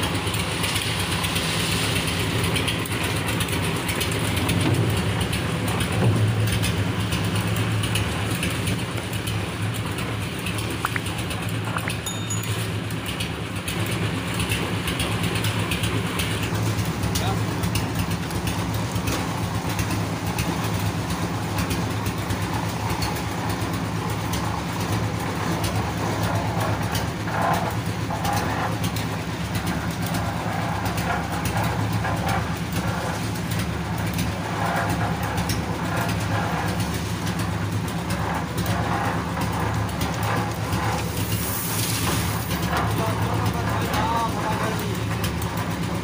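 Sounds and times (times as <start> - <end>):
concrete mixer engine droning: 0.0 - 46.0.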